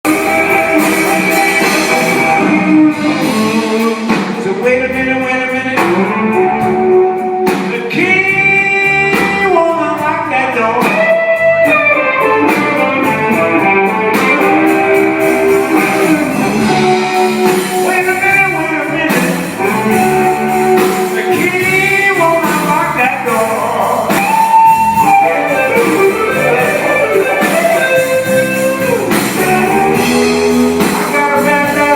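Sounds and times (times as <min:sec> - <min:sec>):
live band with electric guitar: 0:00.0 - 0:31.9
person singing: 0:00.0 - 0:31.9.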